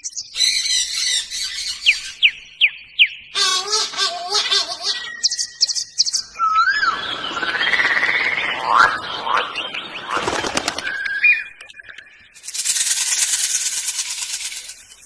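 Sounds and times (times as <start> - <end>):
birds trilling and whistling: 0.0 - 15.0.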